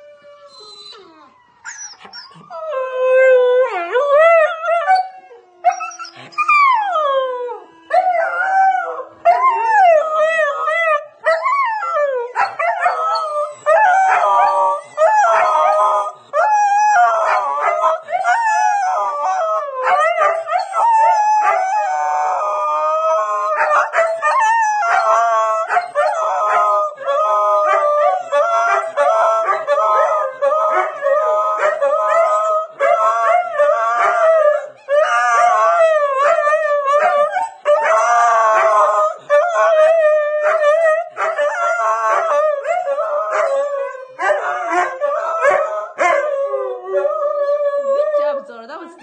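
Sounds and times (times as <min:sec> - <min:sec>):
dog howling: 0:00.0 - 0:48.5.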